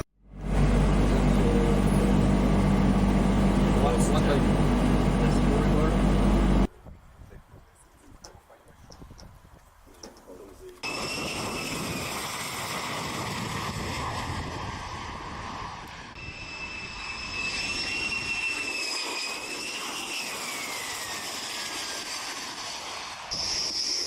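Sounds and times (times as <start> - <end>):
jet engine turbine whine: 0.0 - 6.7, 10.8 - 24.0.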